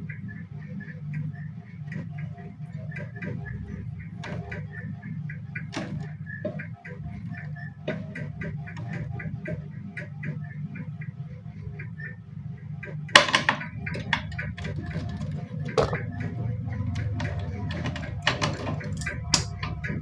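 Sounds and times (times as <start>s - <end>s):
steady low hum: 0.0s - 20.0s
tube cutter ticking and clicking: 0.0s - 20.0s.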